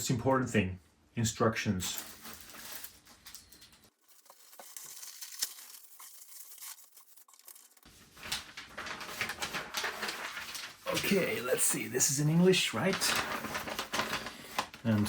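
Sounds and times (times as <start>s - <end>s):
paper rustling and crinkling: 1.9s - 15.0s.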